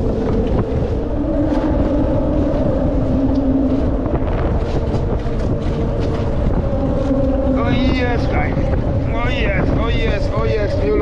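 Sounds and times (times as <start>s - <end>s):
engine drone: 0.0s - 11.0s
wind rumbling on microphone: 0.0s - 11.0s.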